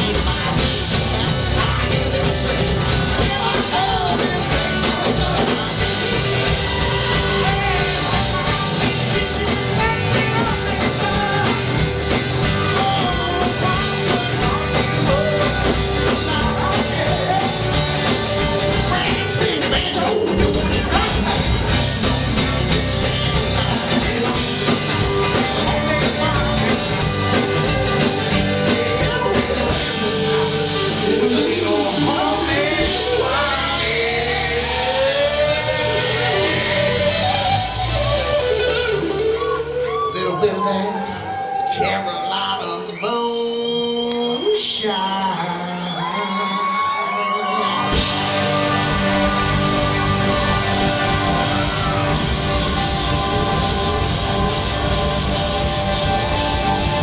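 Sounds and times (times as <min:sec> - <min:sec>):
live rock band playing: 0:00.0 - 0:43.3, 0:46.0 - 0:57.0.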